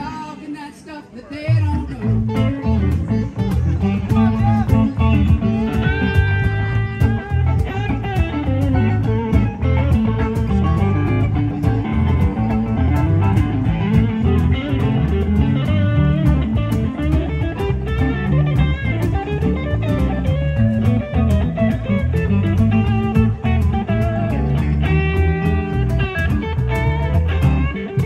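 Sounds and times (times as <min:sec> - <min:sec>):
bending electric guitar lines: 0:00.0 - 0:28.0
live blues-rock band: 0:00.0 - 0:28.0.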